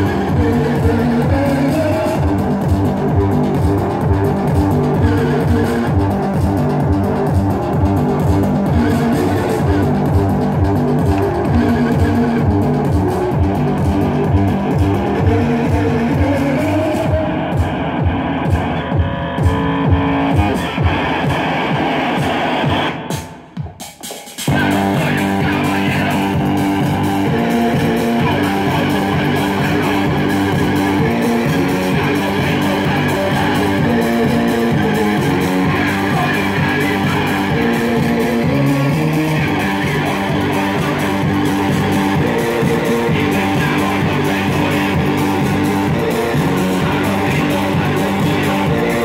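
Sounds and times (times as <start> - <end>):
strummed electric guitar chords: 0.0 - 23.2, 24.5 - 49.0
bass guitar: 0.0 - 23.4, 24.5 - 49.0.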